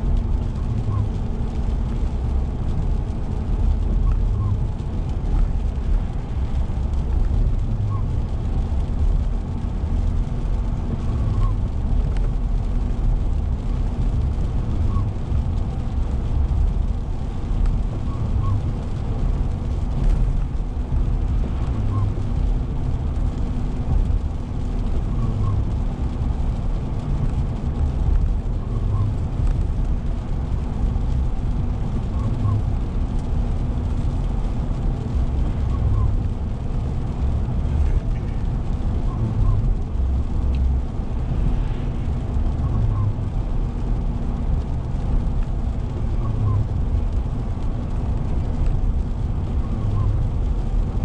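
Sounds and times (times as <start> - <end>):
car cabin road rumble: 0.0 - 51.0.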